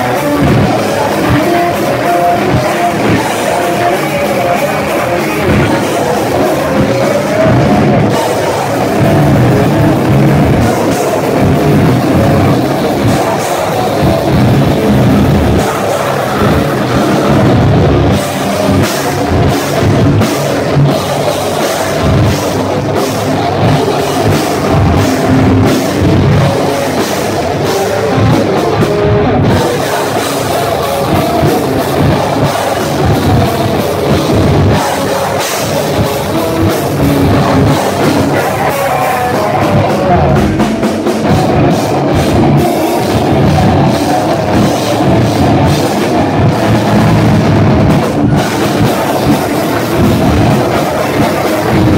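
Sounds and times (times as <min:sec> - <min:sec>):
distorted electric guitars: 0:00.0 - 0:51.9
fast pounding drums: 0:00.0 - 0:51.9.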